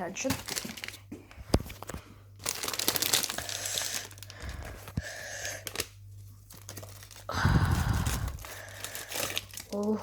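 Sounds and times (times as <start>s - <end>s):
plastic packet crinkling and tearing: 0.2s - 10.0s.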